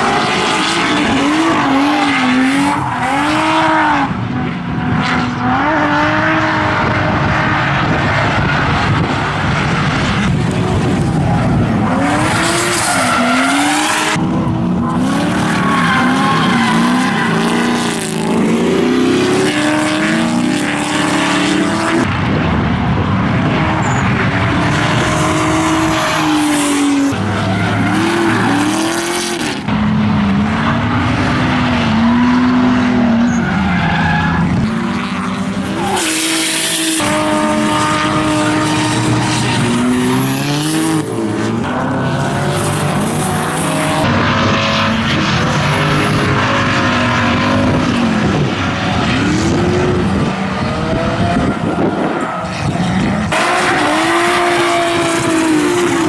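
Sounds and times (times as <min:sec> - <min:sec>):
tyres squealing and skidding: 0:00.0 - 0:04.0, 0:07.5 - 0:20.5, 0:23.5 - 0:29.6, 0:30.8 - 0:34.9, 0:35.6 - 0:49.6, 0:51.3 - 0:56.0
car engines revving hard: 0:00.0 - 0:56.0.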